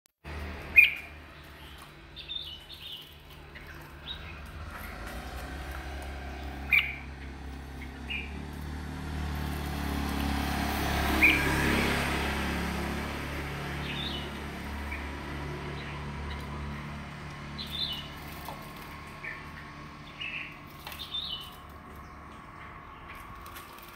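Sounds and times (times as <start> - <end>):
songbirds chirping: 0.2 - 23.9.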